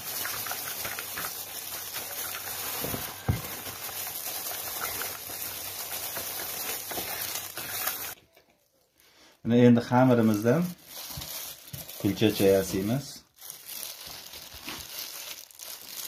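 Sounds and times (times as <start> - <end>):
noodle dough rustling and squishing: 0.0 - 16.0.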